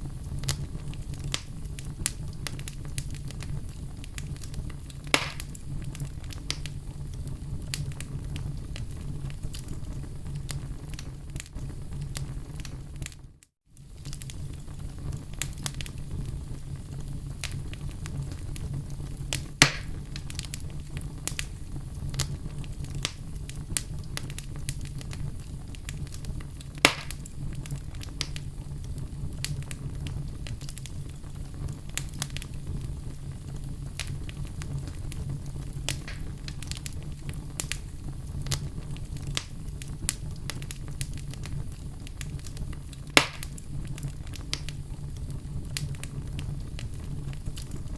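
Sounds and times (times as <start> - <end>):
fire crackling: 0.0 - 47.9
fire rumbling: 0.0 - 47.9
loud fire pops: 0.0 - 47.9.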